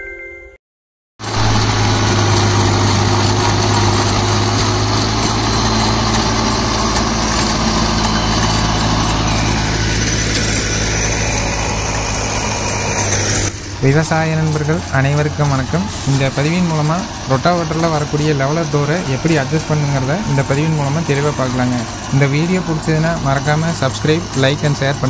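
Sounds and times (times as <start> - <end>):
rotary tiller rushing through soil: 1.2 - 25.0
tractor engine humming: 1.2 - 25.0.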